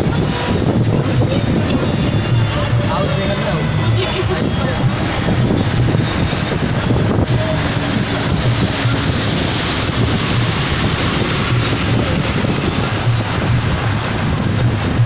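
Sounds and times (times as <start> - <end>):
road and engine rumble: 0.0 - 15.0
truck passing close by: 0.0 - 15.0
wind rushing over microphone: 0.0 - 15.0.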